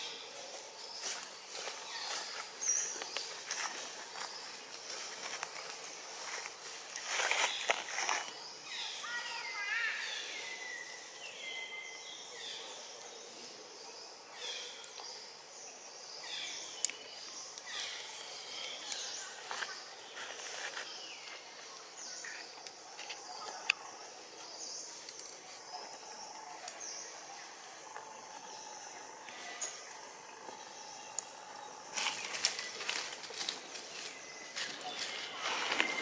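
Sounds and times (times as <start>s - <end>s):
steady background noise: 0.0s - 36.0s.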